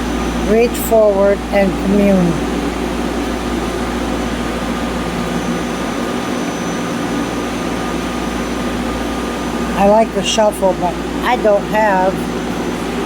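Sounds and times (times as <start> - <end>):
ventilation droning hum: 0.0 - 13.0.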